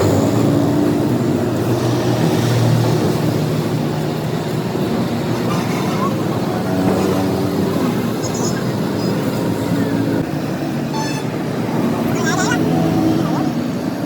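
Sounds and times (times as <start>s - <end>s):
road traffic engines droning: 0.0s - 14.0s.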